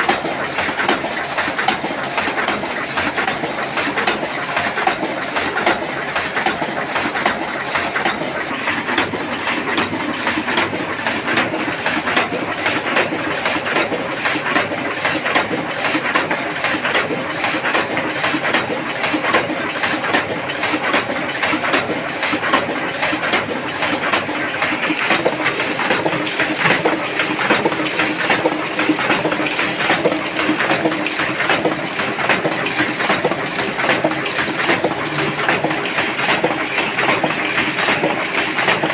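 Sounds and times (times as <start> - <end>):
printing press clatter: 0.0 - 38.9.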